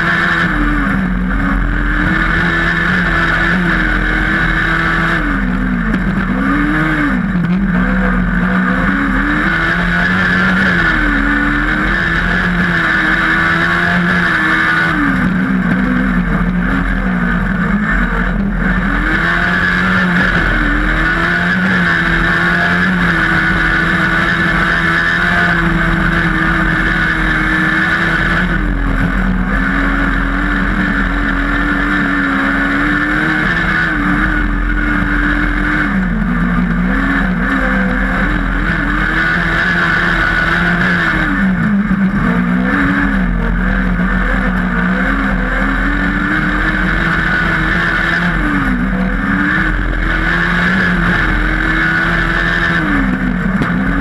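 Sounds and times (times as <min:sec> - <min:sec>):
buggy engine running hard: 0:00.0 - 0:54.0
rush of wind and dirt: 0:00.0 - 0:54.0.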